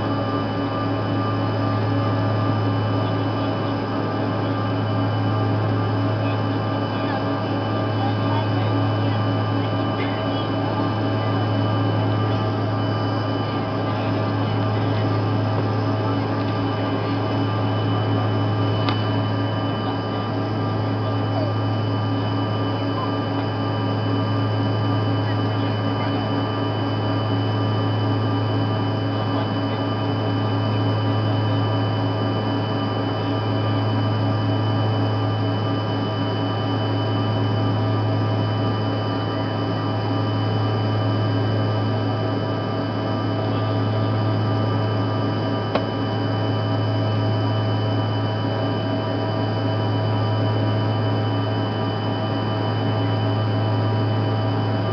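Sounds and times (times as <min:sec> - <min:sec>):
jet engine drone: 0:00.0 - 0:54.9
steady whining tones: 0:00.0 - 0:54.9.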